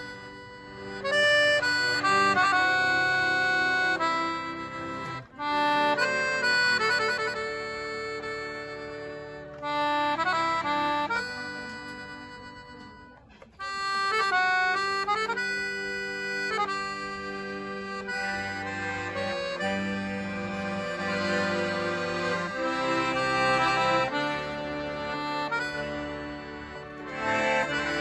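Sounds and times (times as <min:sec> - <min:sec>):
accordions playing a melody: 0:00.0 - 0:28.0.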